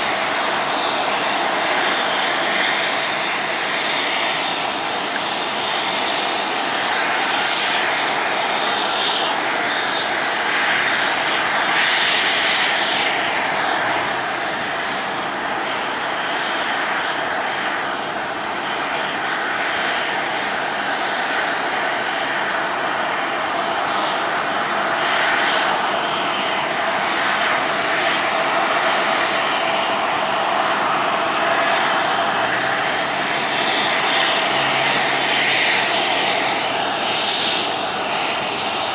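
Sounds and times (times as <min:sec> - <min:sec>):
airliner engines rushing: 0:00.0 - 0:38.9.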